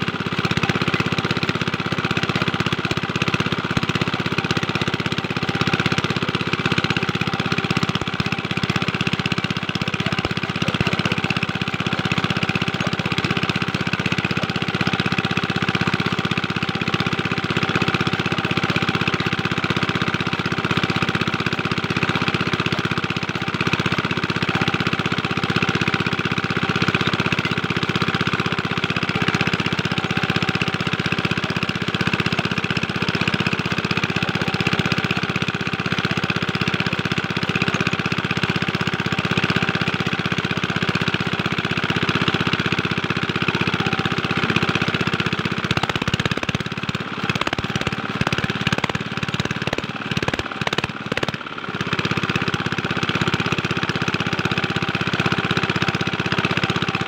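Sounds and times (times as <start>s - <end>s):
diesel engine running fast: 0.0s - 57.0s.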